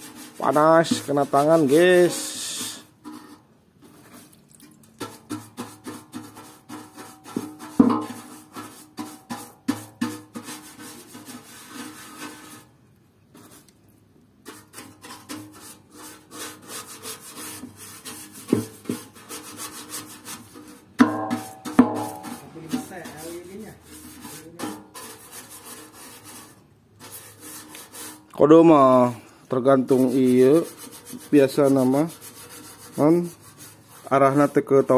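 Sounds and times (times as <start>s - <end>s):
paintbrush scrubbing metal: 0.0s - 12.7s, 13.3s - 13.8s, 14.4s - 34.9s.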